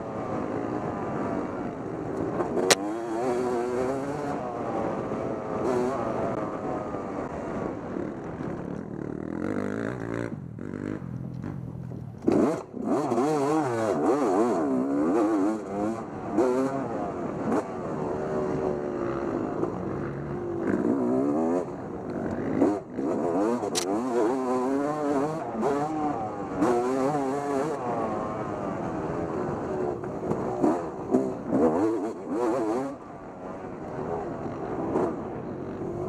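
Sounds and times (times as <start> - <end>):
off-road motorcycle engine revving: 0.0 - 36.0.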